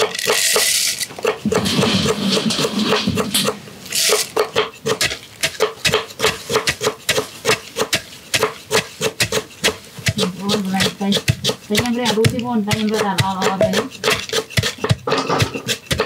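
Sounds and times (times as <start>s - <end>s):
pestle pounding nuts in mortar: 0.0s - 16.0s.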